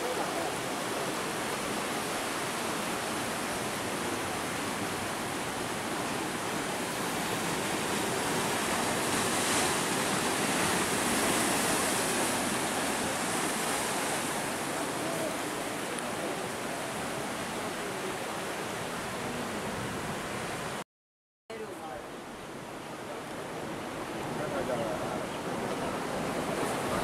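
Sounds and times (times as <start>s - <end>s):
surf washing over rocks: 0.0s - 20.8s, 21.6s - 27.0s.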